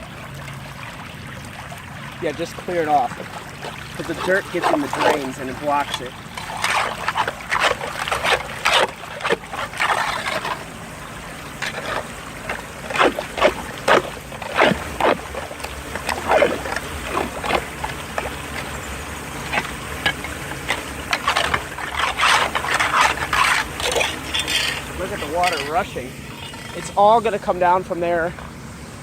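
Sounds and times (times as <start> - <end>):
water running into drain: 0.0 - 29.0
debris scraping and splashing: 1.9 - 28.8.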